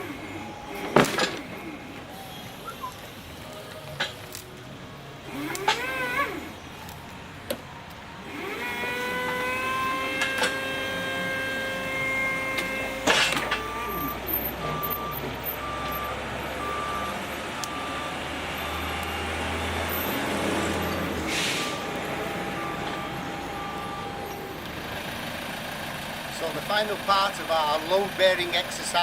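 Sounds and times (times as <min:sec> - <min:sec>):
reversing alarm beeping: 0:00.0 - 0:25.1
machine engine whining: 0:00.0 - 0:29.0.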